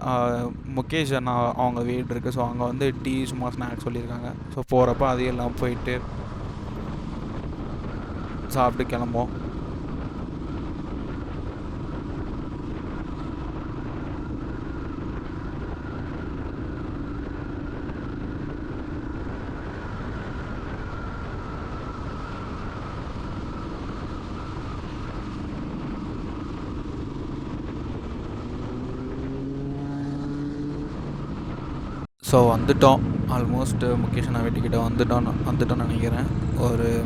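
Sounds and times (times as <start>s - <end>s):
wind and road noise: 0.0s - 37.0s
motorcycle engine cruising: 1.3s - 37.0s.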